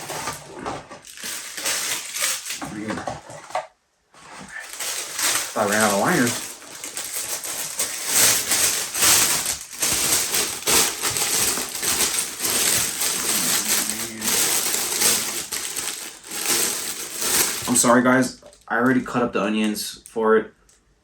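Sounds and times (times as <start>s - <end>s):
plastic liner crinkling: 0.0s - 3.6s, 4.2s - 20.2s.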